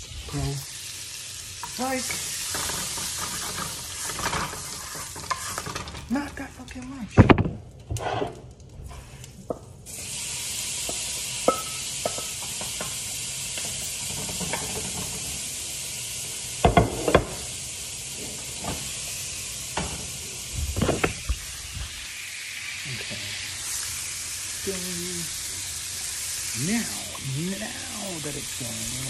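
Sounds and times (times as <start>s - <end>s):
shrimp sizzling in a pan: 0.0s - 6.4s, 8.9s - 29.0s.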